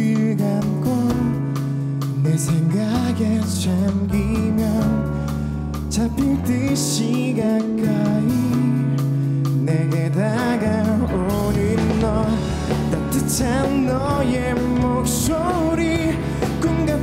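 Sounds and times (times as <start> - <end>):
bass guitar: 0.0 - 17.0
drums: 0.0 - 17.0
electric guitar: 0.0 - 17.0
keyboard: 0.0 - 17.0
man singing: 0.0 - 17.0.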